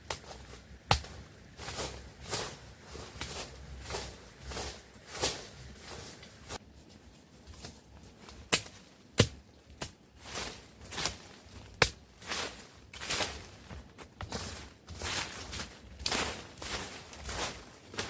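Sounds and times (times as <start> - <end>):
sharp knocks in vegetation: 0.0 - 6.6, 7.5 - 18.0
swishing rustles in vegetation: 0.0 - 8.3, 10.1 - 18.0.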